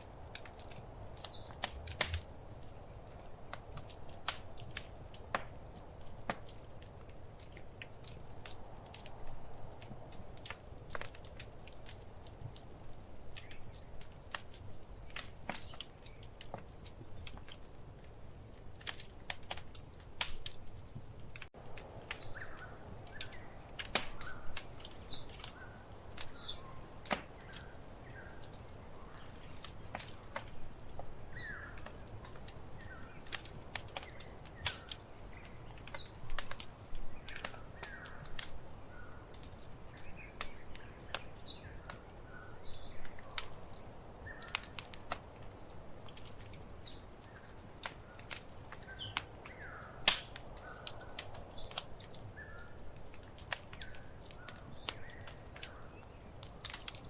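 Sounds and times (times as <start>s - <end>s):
sharp pops and snaps: 0.0s - 57.0s
wood fire crackling: 0.0s - 57.0s.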